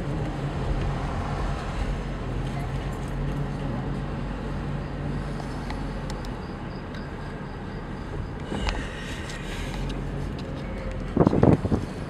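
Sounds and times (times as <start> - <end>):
car engine hum: 0.0 - 12.0
road noise rush: 0.0 - 12.0.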